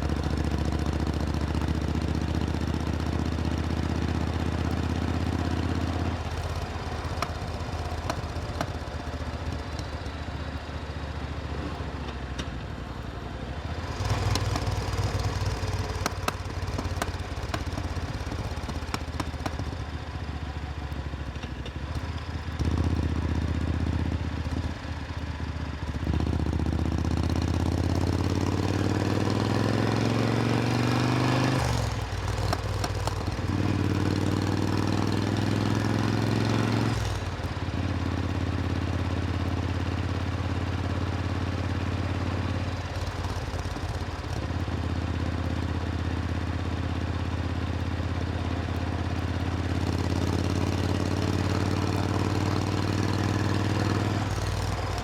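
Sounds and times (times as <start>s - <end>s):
motorcycle engine revving: 0.0s - 10.9s, 13.6s - 20.8s, 26.0s - 55.0s.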